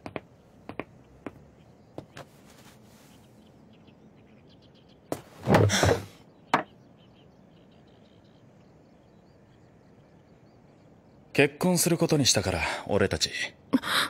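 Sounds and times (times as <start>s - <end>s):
faint high chirping: 0.0s - 12.8s.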